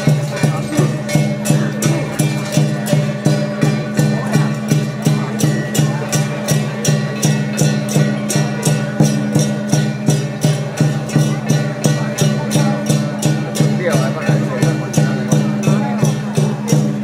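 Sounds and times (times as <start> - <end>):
big drum beating: 0.0 - 17.0
cymbals crashing: 0.0 - 17.0.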